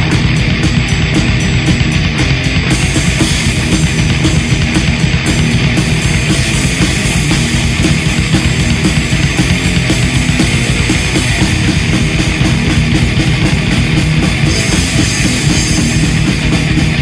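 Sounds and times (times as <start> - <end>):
distorted electric guitars: 0.0 - 17.0
fast driving drums: 0.0 - 17.0
heavy metal band playing: 0.0 - 17.0.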